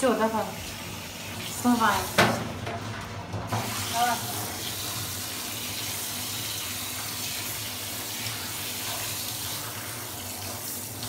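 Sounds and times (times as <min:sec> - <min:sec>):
water spraying from handheld shower: 0:00.0 - 0:11.0.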